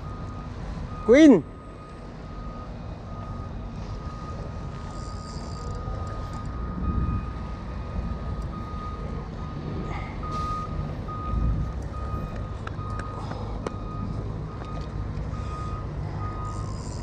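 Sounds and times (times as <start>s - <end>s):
reversing alarm beeping: 0.0s - 17.0s.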